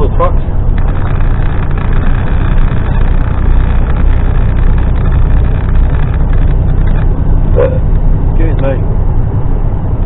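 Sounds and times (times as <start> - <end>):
lorry diesel engine drone: 0.0 - 10.0
road noise: 0.0 - 10.0.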